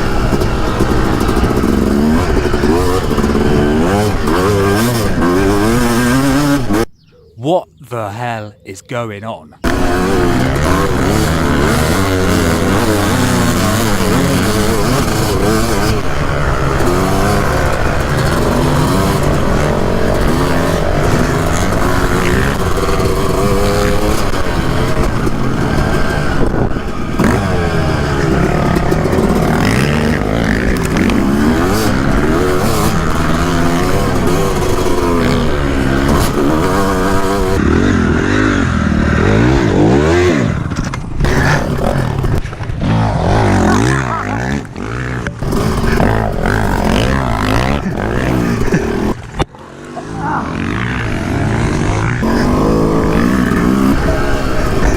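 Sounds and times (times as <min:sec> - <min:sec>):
two-stroke motocross bike revving: 0:00.0 - 0:07.1, 0:09.6 - 0:54.9.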